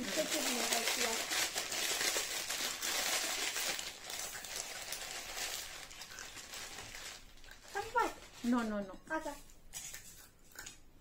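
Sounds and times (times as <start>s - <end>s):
plastic packet crinkling: 0.0s - 10.8s.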